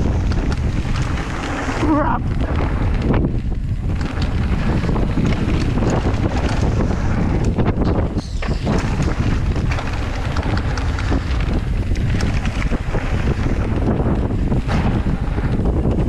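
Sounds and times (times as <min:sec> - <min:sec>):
bike clicks and rattles: 0:00.0 - 0:16.0
tyres on dirt and stones: 0:00.0 - 0:16.0
wind buffeting microphone: 0:00.0 - 0:16.0.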